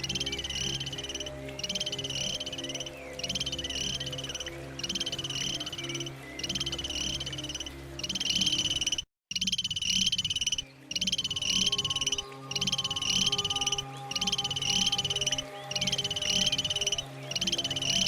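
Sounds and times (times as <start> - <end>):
animal calling in high trills: 0.0 - 18.0.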